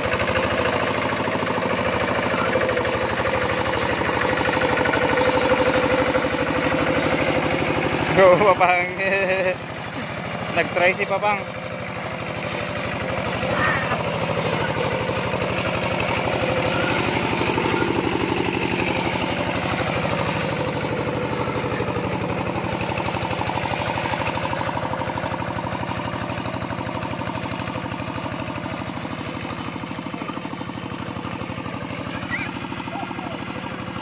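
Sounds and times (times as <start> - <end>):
diesel engine chugging: 0.0 - 34.0.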